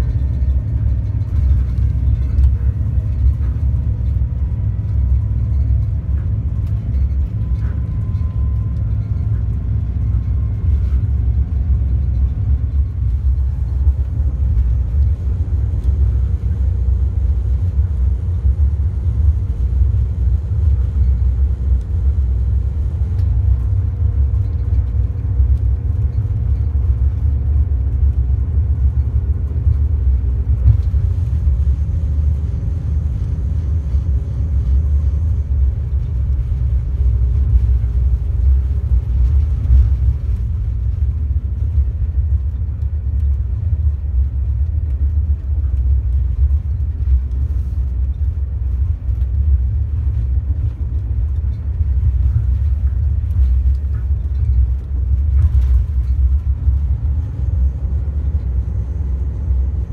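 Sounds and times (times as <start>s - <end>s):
diesel train rumbling along track: 0.0s - 59.9s.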